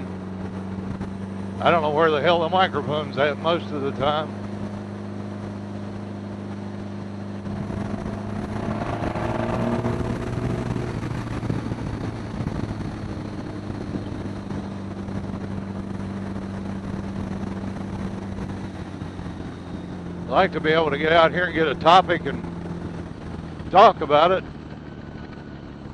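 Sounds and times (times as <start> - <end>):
motorcycle engine running: 0.0 - 25.9
wind rushing over microphone: 4.0 - 25.9.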